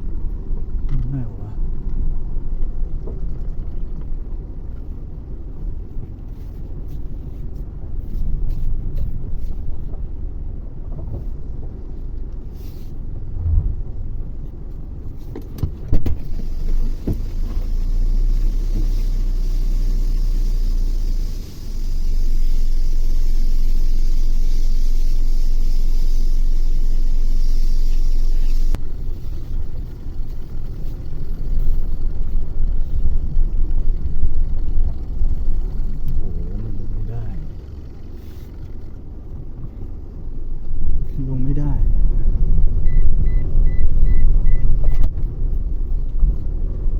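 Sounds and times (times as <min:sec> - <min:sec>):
vehicle driving on road: 0:00.0 - 0:46.9.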